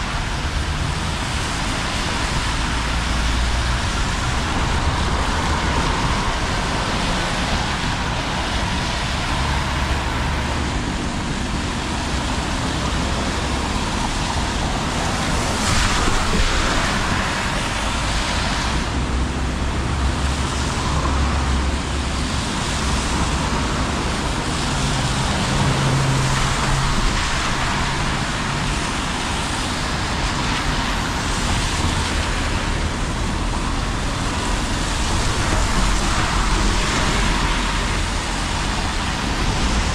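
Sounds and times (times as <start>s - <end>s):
cars and buses passing: 0.0s - 39.9s
tyres hissing on wet road: 0.0s - 39.9s
vehicle engine noise: 0.0s - 39.9s.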